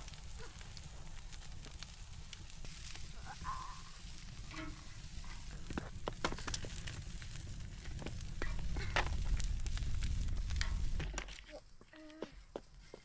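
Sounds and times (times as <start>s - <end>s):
meat sizzling on a grill: 0.0s - 11.8s
fire pops and crackles: 0.0s - 13.0s.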